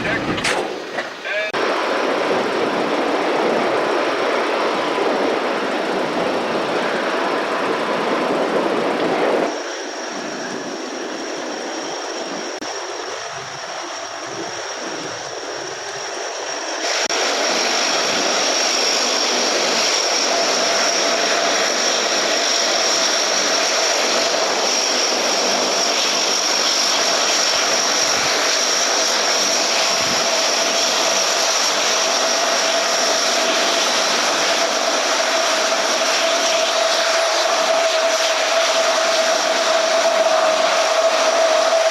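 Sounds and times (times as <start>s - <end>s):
aircraft engine with high whine: 0.0s - 41.9s.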